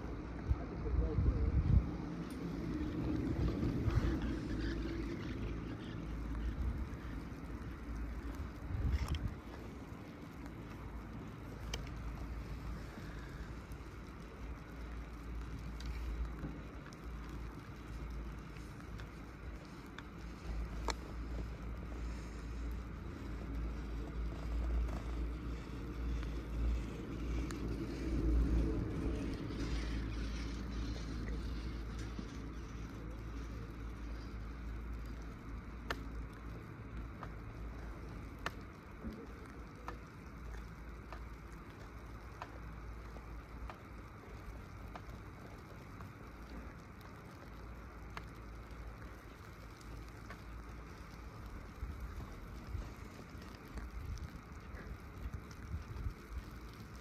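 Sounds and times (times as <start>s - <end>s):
steady hiss: 0.0s - 57.0s
wind rumble on microphone: 0.0s - 57.0s
faint sharp ticks: 3.5s - 57.0s.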